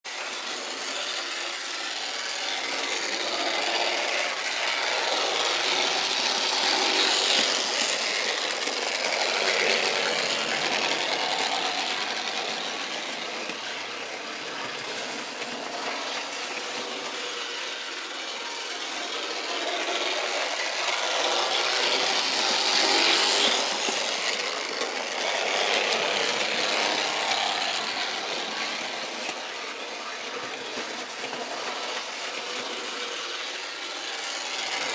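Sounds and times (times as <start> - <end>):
model train whirring on rails: 0.0 - 34.9.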